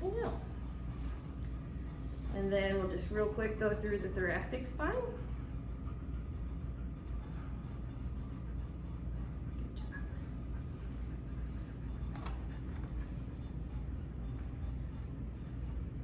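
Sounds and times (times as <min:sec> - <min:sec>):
low room rumble: 0:00.0 - 0:16.0.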